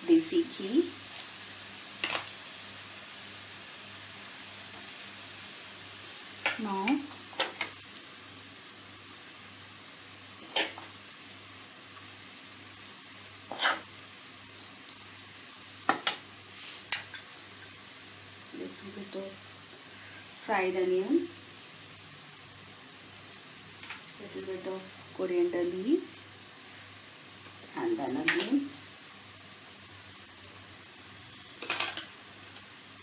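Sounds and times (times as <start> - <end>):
faint sizzle in pan: 0.0 - 33.0.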